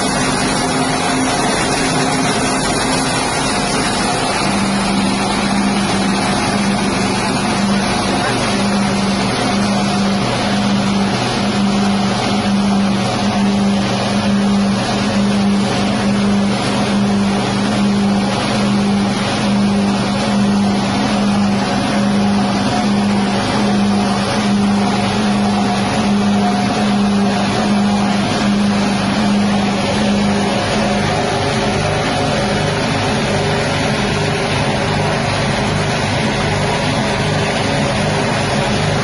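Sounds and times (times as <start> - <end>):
grinding machine engine humming: 0.0 - 39.0.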